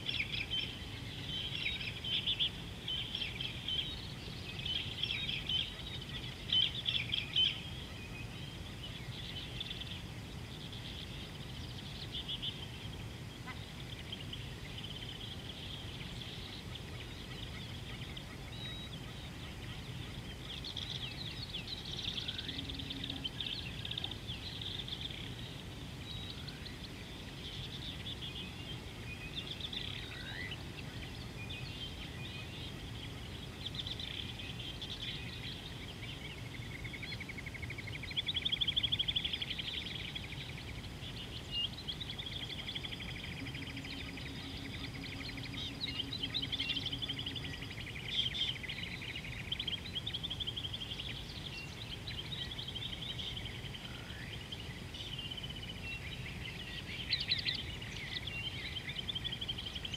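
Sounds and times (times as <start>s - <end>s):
low outdoor rumble: 0.0s - 55.7s
birds chirping and trilling: 0.0s - 59.9s
faint low hum: 0.0s - 59.9s.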